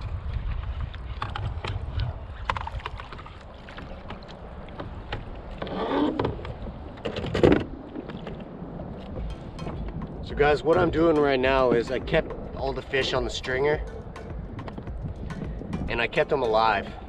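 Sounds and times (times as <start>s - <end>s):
water moving against kayak: 0.0s - 16.8s
wind rumbling on microphone: 0.0s - 17.0s.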